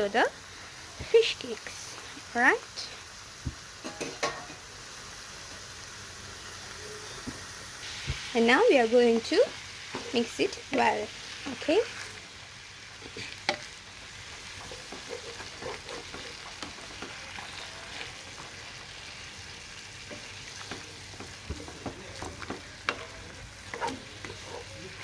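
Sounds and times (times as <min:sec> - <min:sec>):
meat sizzling in a frying pan: 0:00.0 - 0:25.0.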